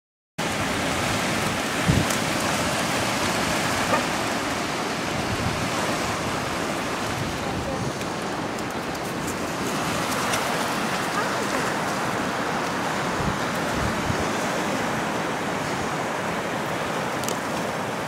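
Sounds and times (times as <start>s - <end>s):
ocean surf breaking: 0.4s - 18.0s.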